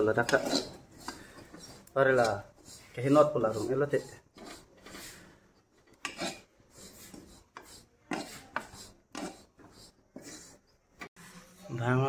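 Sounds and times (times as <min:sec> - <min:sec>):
spatula scraping a metal wok: 0:00.0 - 0:11.6.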